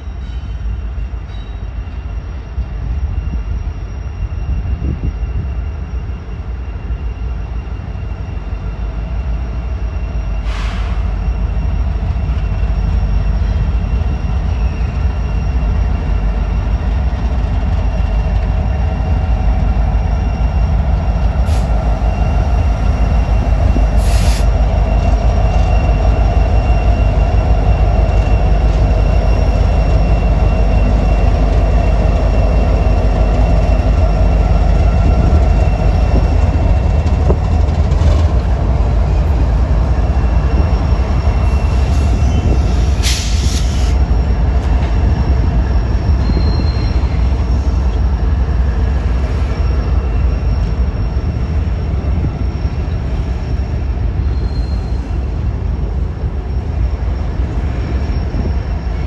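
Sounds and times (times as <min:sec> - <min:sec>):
freight train rumbling past: 0:00.0 - 0:59.0
wheel squeal: 0:06.7 - 0:59.0.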